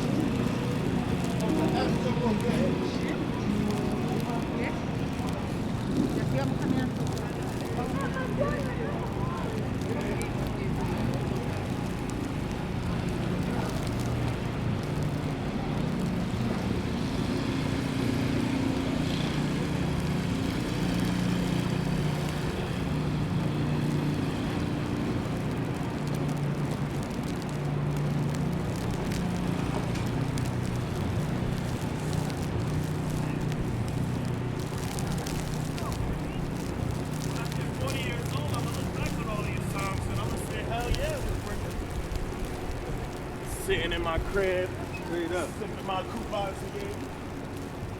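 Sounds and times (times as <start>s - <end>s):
street hiss: 0.0s - 47.9s
traffic rumble: 0.0s - 47.9s.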